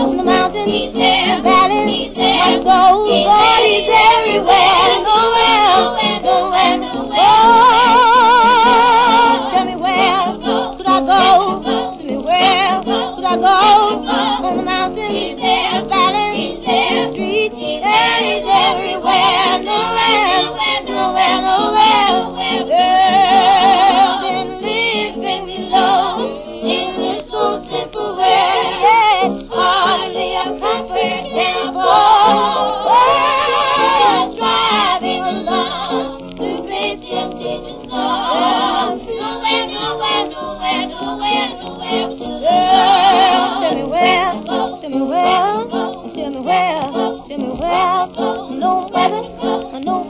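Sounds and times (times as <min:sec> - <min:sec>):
gospel accompaniment: 0:00.0 - 0:50.0
women singing in harmony: 0:00.0 - 0:50.0.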